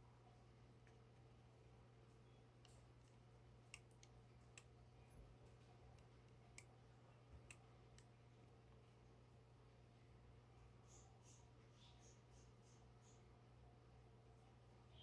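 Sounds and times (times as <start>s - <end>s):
faint low equipment hum: 0.0s - 15.0s.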